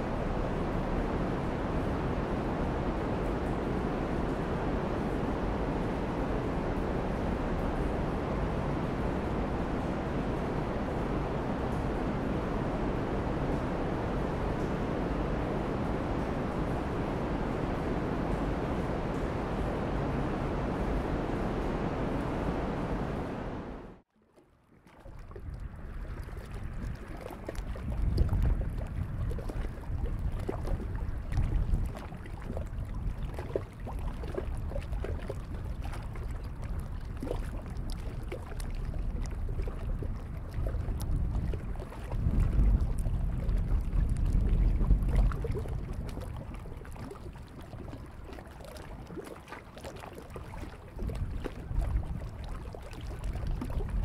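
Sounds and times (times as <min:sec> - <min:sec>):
wind gusting on microphone: 0:00.0 - 0:24.0, 0:25.3 - 0:48.4, 0:50.6 - 0:54.0
water lapping at shore: 0:00.0 - 0:54.0.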